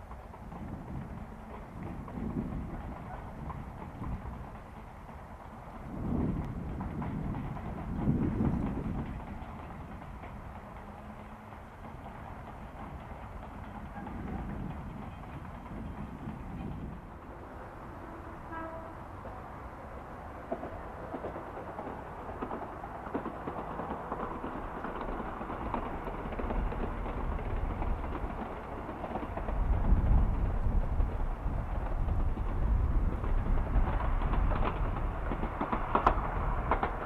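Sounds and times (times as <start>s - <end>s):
clicks of train on track: 0.0s - 37.0s
train rumbling along track: 0.0s - 37.0s.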